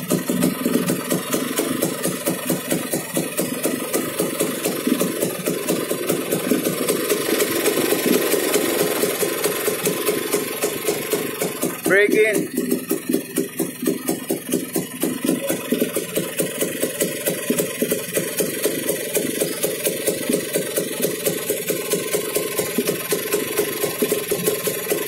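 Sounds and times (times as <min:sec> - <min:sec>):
two-stroke engine idling: 0:00.0 - 0:25.0.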